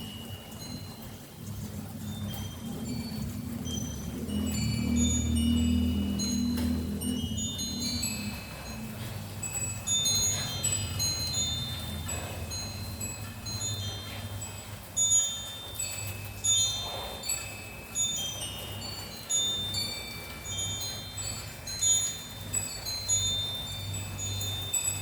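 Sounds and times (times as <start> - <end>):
metal wind chimes ringing: 0.0 - 25.0.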